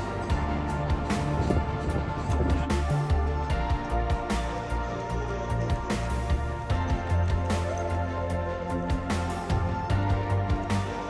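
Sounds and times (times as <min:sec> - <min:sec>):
music with beat and heavy bass: 0:00.0 - 0:11.0.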